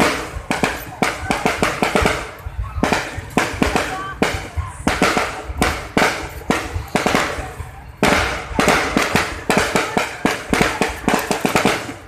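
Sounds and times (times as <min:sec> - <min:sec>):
fireworks bangs and crackles: 0:00.0 - 0:12.0
heavy firework booms: 0:00.0 - 0:12.0.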